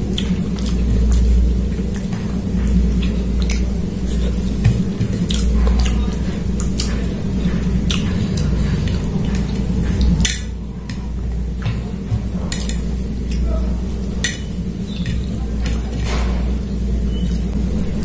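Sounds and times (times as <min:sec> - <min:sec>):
chewing: 0:00.0 - 0:18.0
low steady hum: 0:00.0 - 0:18.0
wet squishes of hand mixing food: 0:00.0 - 0:18.0.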